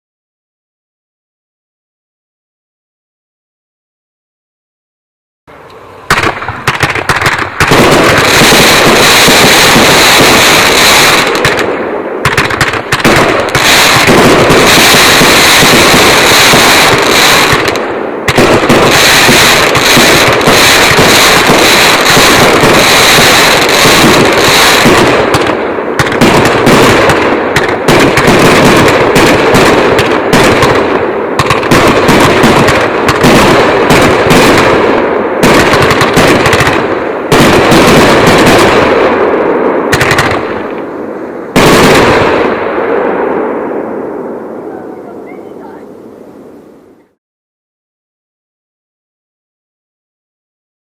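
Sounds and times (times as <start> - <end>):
firework barrage: 5.5 - 47.0.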